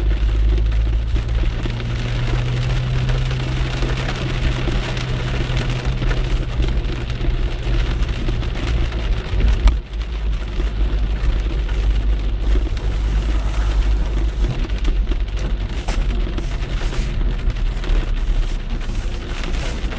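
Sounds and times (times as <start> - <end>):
heavy rain on a car: 0.0 - 19.9.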